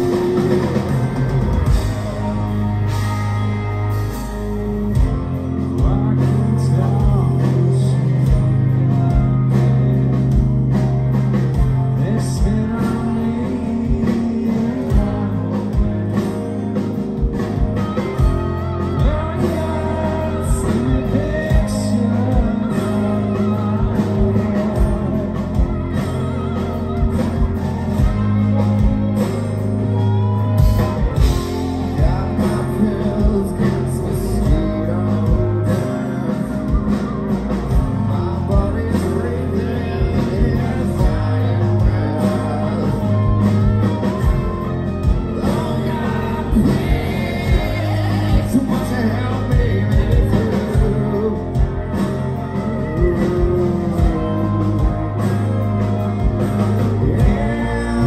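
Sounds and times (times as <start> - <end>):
bass guitar: 0.0 - 58.0
distorted electric guitar: 0.0 - 58.0
drums: 0.0 - 58.0
lead singer singing: 0.0 - 58.0.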